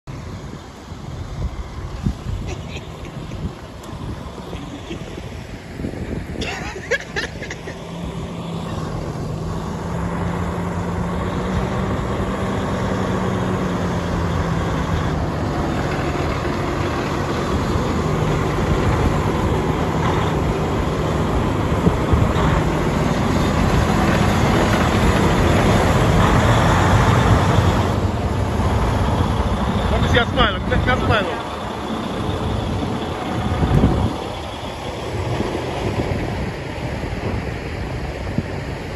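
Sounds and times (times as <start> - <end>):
truck diesel engine running: 0.1 - 38.9.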